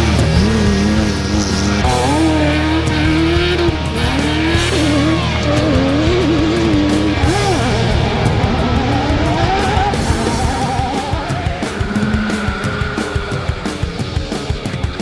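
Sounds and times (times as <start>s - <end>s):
rally car engine revving: 0.0s - 15.0s
rock music: 0.0s - 15.0s.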